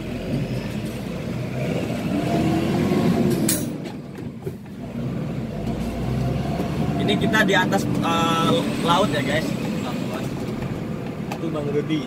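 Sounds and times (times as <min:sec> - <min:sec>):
truck diesel engine pulling away: 0:00.0 - 0:11.0.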